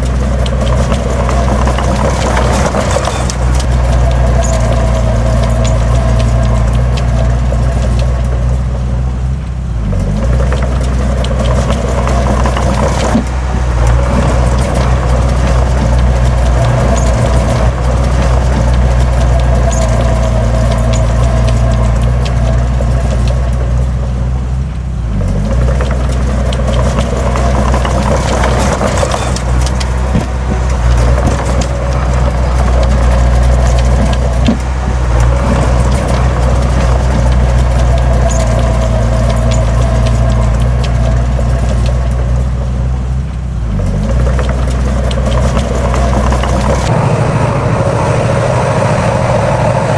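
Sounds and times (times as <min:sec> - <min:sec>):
heavy diesel machinery engine drone: 0:00.0 - 0:49.9.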